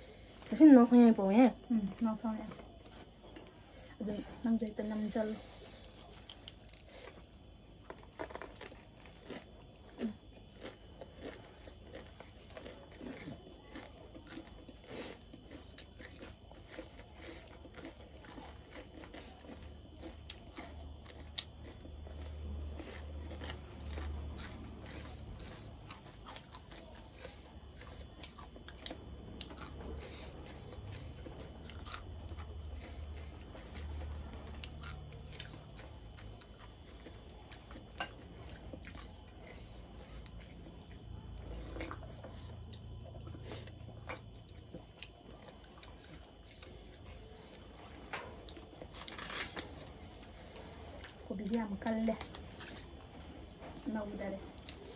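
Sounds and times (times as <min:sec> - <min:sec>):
person chewing and crunching food: 0:01.7 - 0:54.9.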